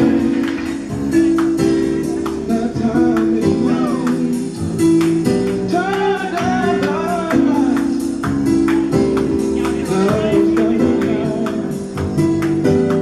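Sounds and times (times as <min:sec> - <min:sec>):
music with a steady beat: 0:00.0 - 0:13.0
person singing: 0:01.6 - 0:13.0.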